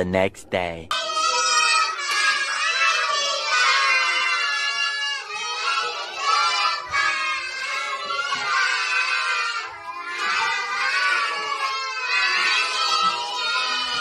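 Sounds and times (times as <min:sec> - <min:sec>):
children singing together: 0:00.9 - 0:14.0.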